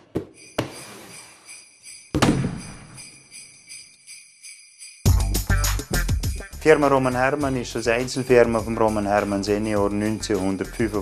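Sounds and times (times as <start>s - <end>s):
jingle bells shaking: 0.4s - 11.0s.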